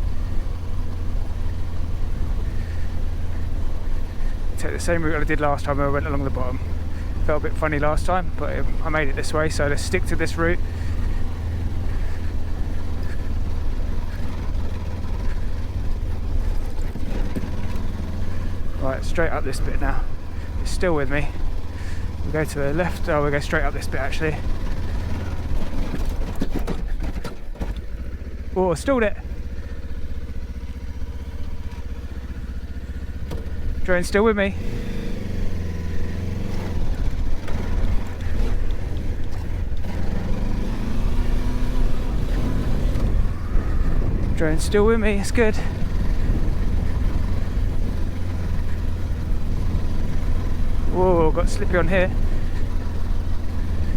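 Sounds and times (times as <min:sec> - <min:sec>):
motorcycle engine rumbling: 0:00.0 - 0:53.9.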